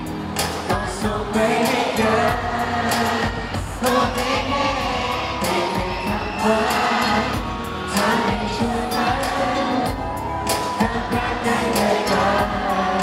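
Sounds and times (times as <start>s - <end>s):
backing music: 0.0s - 13.0s
man singing into microphone: 0.7s - 13.0s.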